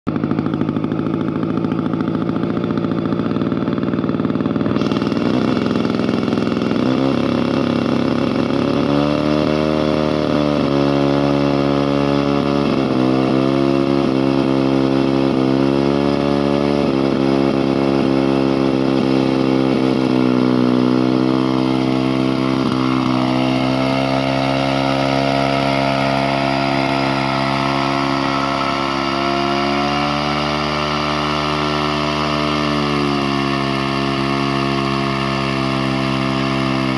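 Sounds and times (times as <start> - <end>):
chainsaw engine running: 0.1 - 36.9.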